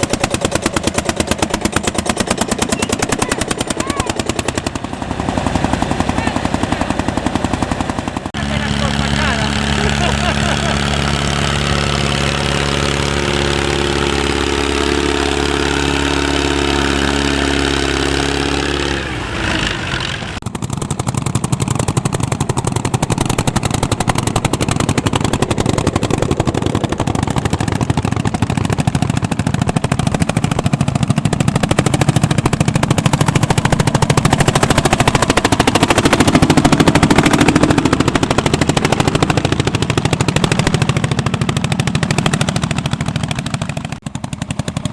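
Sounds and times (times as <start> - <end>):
tractor engine drone: 0.0 - 44.9.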